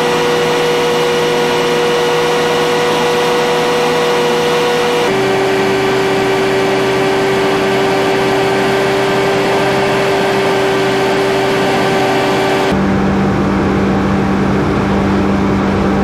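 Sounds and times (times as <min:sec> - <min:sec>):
aircraft engine and propeller droning: 0:00.0 - 0:16.0.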